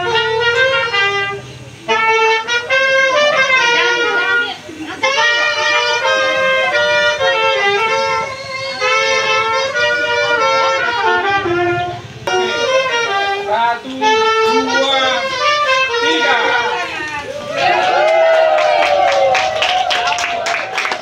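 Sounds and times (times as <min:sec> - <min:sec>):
instrumental melody: 0:00.0 - 0:17.4.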